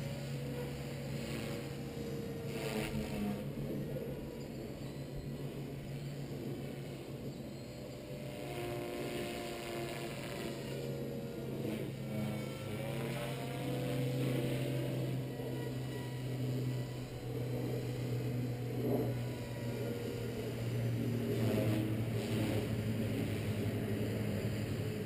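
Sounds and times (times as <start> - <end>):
rc helicopter motor whine: 0.0 - 25.0.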